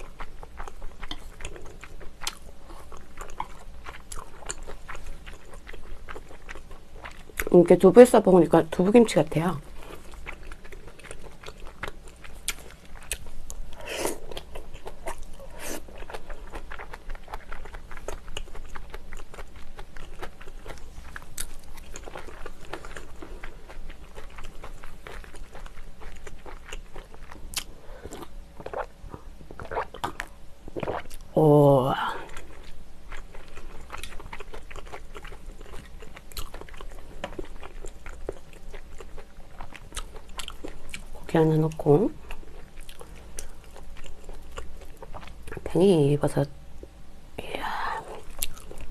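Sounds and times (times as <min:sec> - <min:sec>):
close chewing and biting: 0:00.0 - 0:07.6, 0:09.7 - 0:31.3, 0:32.2 - 0:45.7, 0:48.2 - 0:48.9.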